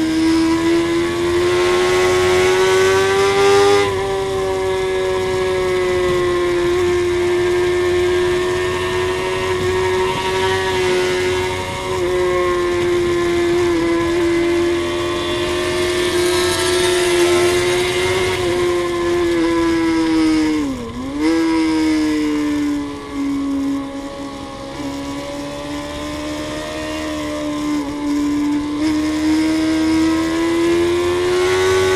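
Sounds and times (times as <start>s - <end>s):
wind rush: 0.0s - 28.0s
motorcycle engine revving high: 0.0s - 31.9s.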